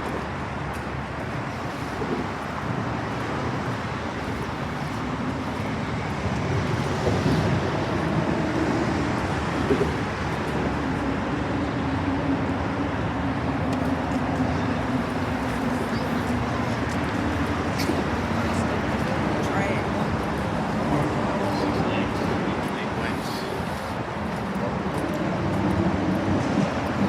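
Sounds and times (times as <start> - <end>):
steady engine hum: 0.0 - 27.0
vehicles passing: 0.0 - 27.0.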